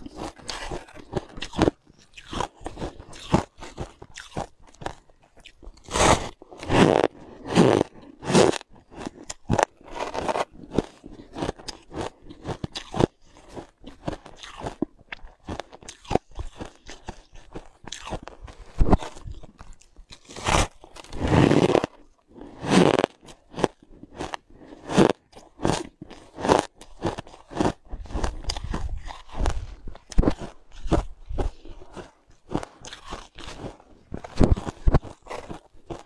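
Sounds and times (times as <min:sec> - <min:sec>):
person chewing ice crunching: 0:00.0 - 0:36.0.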